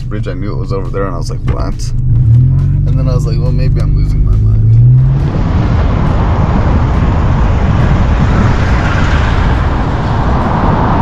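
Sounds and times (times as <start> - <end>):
vehicle road and wind noise: 0.0 - 11.0.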